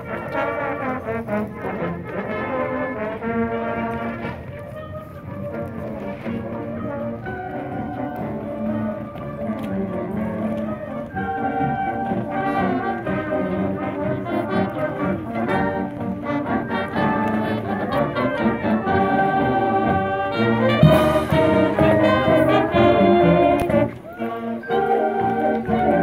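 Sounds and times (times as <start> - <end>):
marching brass band playing: 0.0 - 26.0.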